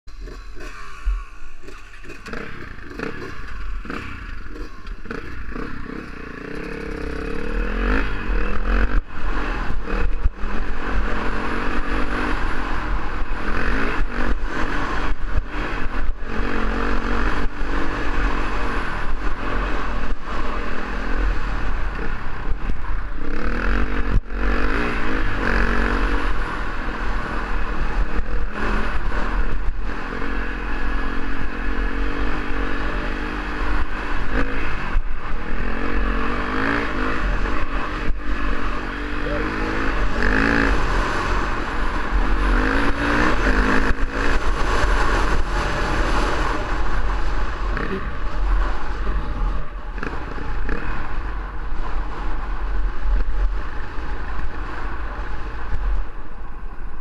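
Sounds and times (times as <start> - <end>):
motorcycle engine revving: 0.1 - 57.0
motorcycle rattling over rough ground: 0.1 - 57.0.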